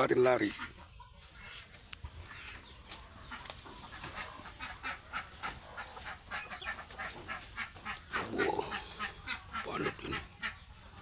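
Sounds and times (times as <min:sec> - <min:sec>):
chickens clucking in alarm: 0:00.0 - 0:11.0.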